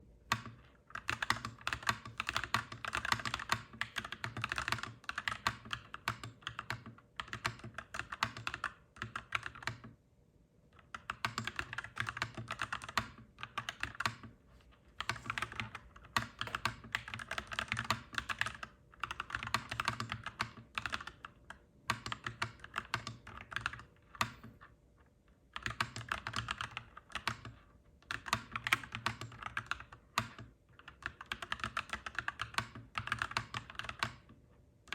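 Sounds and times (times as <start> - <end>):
mechanical keyboard typing: 0.3 - 9.9, 10.8 - 14.4, 15.0 - 24.6, 25.5 - 34.9.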